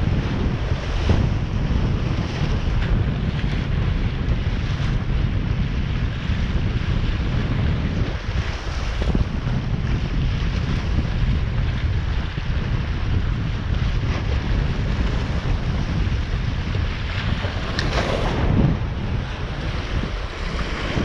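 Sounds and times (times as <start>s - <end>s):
water noise: 0.0s - 21.0s
wind buffeting microphone: 0.0s - 21.0s.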